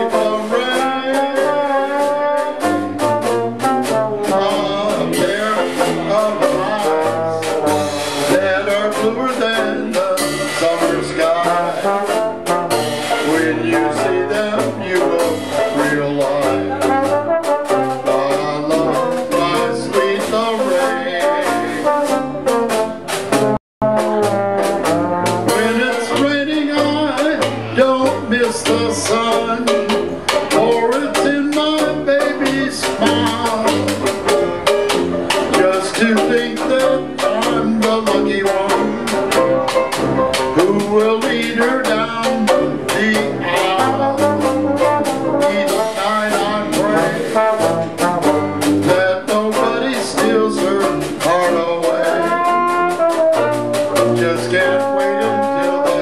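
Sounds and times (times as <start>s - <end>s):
jazz band playing: 0.0s - 56.0s
trombone: 0.0s - 56.0s.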